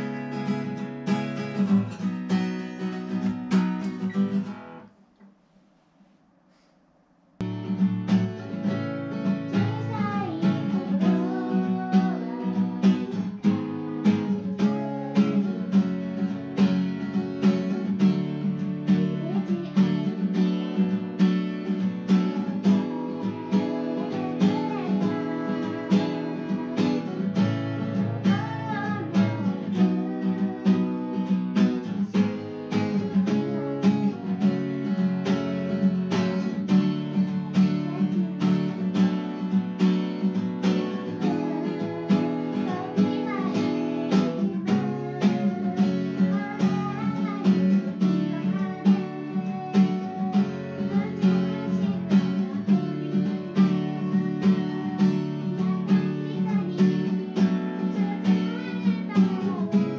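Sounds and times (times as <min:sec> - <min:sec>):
acoustic guitar strummed and picked: 0:00.0 - 0:05.0, 0:07.4 - 0:59.9.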